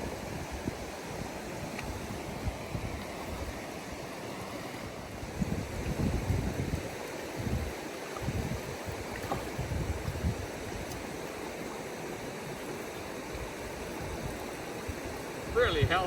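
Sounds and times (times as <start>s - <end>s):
wind buffeting microphone: 0.0s - 11.2s, 13.0s - 16.0s
river water flowing: 0.0s - 16.0s.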